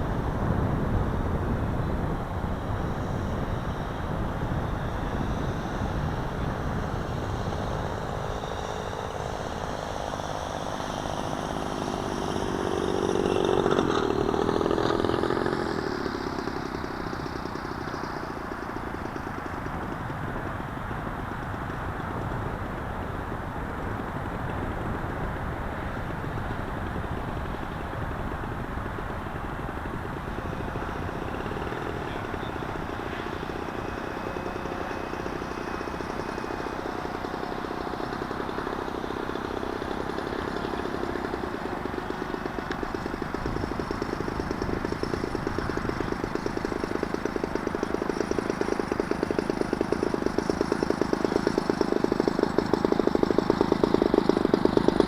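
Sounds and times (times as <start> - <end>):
wind on microphone: 0.0 - 53.4
faint high whine: 0.0 - 55.0
model plane motor buzzing: 0.0 - 55.0.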